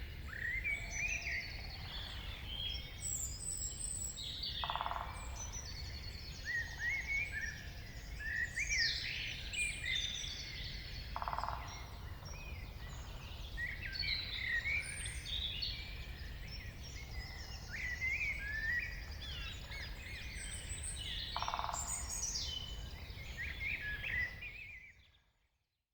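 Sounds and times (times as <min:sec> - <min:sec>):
songbirds singing and chirping: 0:00.0 - 0:25.4.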